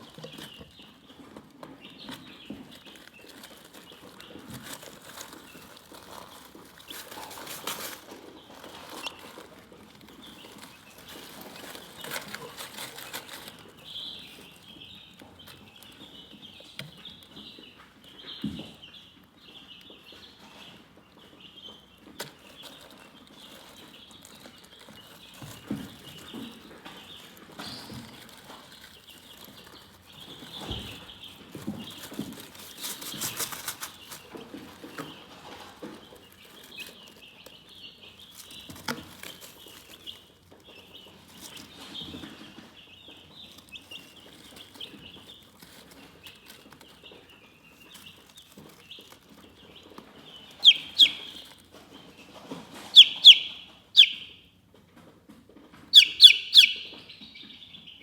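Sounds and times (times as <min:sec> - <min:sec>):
scratching and rustling clicks: 0:00.0 - 0:18.7, 0:21.9 - 0:53.4
chicks peeping: 0:00.0 - 0:58.0.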